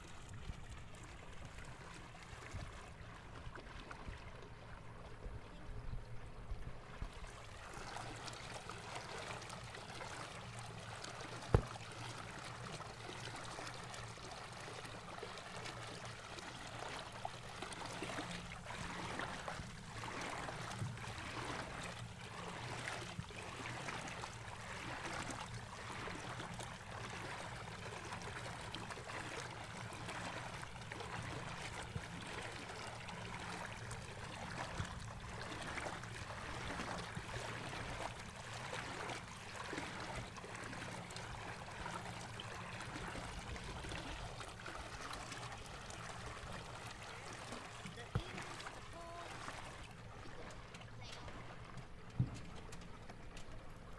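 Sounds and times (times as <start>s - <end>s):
water splashing along hull: 0.0s - 53.9s.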